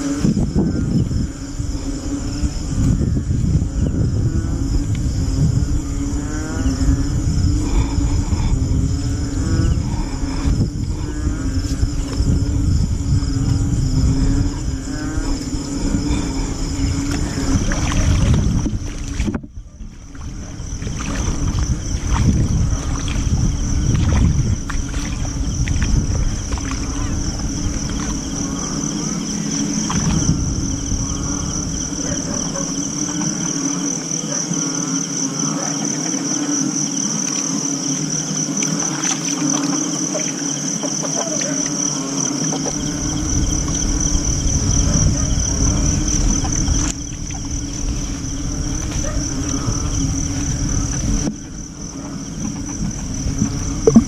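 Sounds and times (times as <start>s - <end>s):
low wind rumble: 0.0s - 33.0s, 42.7s - 54.0s
frog calls: 0.0s - 54.0s
insects high-pitched drone: 0.0s - 54.0s.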